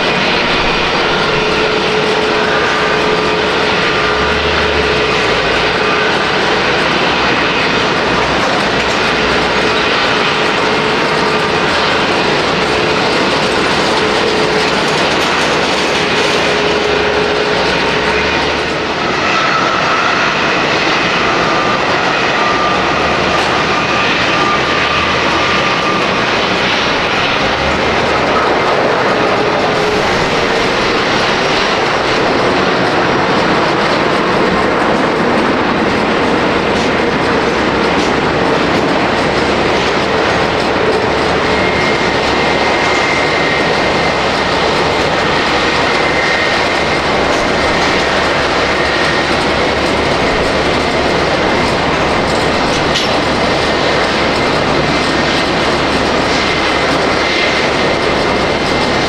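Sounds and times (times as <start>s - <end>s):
jet engines roaring with whine: 0.0s - 59.0s.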